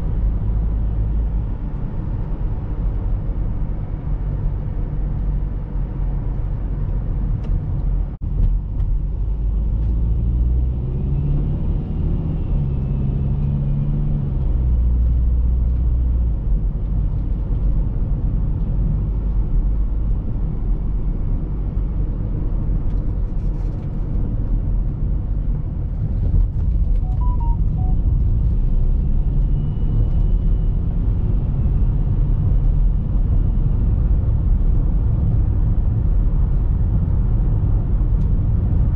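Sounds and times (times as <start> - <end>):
car engine drone: 0.0 - 38.9
road rumble: 0.0 - 38.9.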